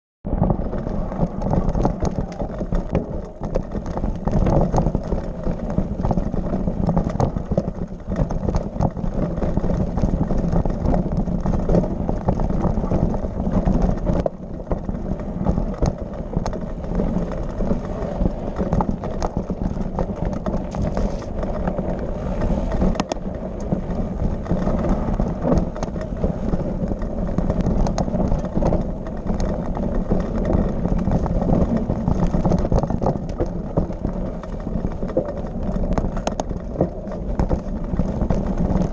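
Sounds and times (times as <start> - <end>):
bike knocks and rattles: 0.3 - 38.9
bike rumbling over rocky trail: 0.3 - 38.9.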